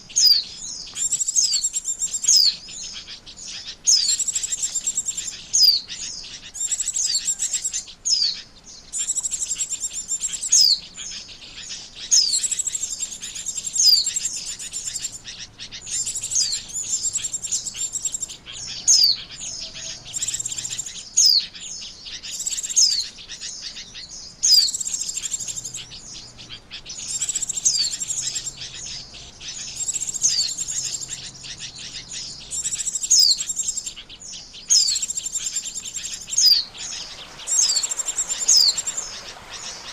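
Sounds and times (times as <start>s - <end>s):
white-eye bird twittering: 0.0s - 39.9s.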